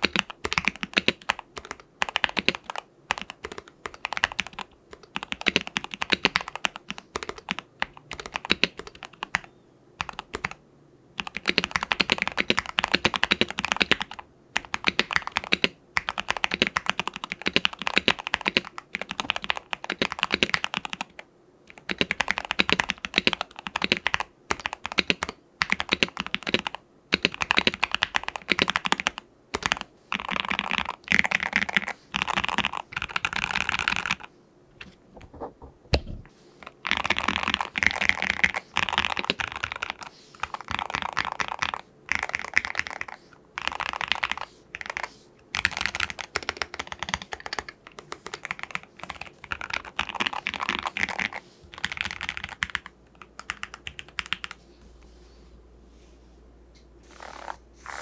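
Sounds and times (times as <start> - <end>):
mechanical keyboard typing: 0.0 - 10.6, 11.2 - 34.9, 36.8 - 54.6.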